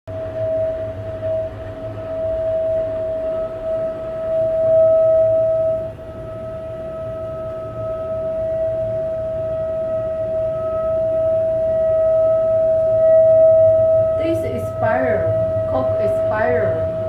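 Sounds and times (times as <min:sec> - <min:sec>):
water pipes humming tone: 0:00.1 - 0:17.0.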